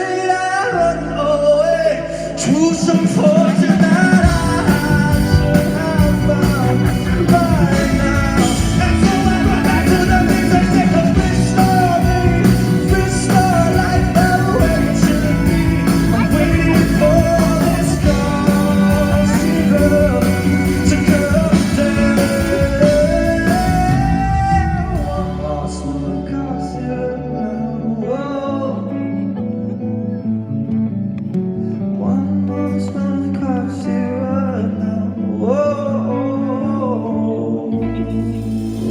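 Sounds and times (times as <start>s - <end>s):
man singing: 0.0s - 30.3s, 31.8s - 38.9s
rock band with guitar: 0.0s - 38.9s.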